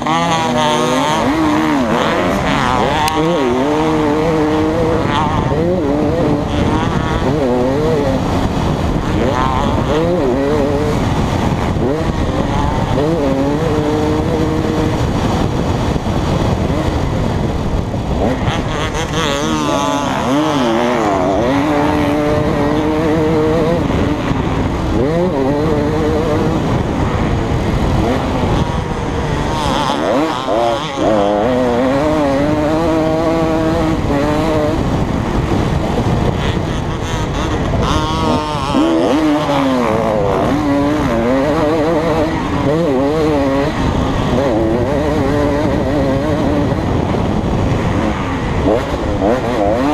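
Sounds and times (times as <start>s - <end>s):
motocross engine revving: 0.0s - 49.9s
wind and track noise: 0.0s - 49.9s.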